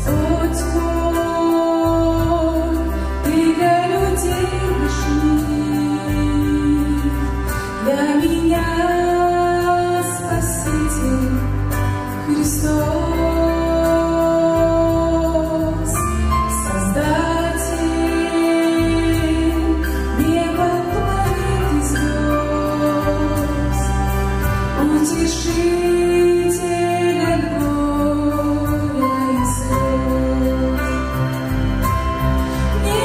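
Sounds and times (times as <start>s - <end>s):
instrumental accompaniment with deep bass: 0.0s - 33.0s
woman singing into a microphone: 0.0s - 33.0s.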